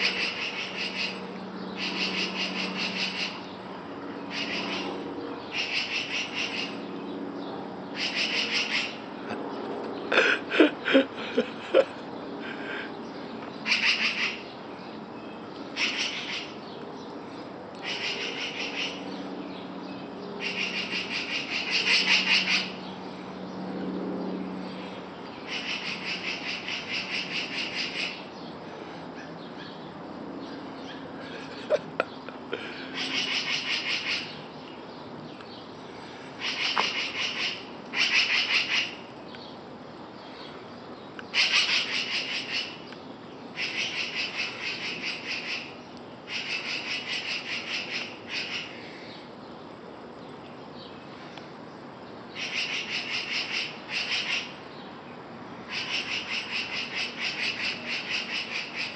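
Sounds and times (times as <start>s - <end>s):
birds rattling scold calls: 0.0s - 58.9s.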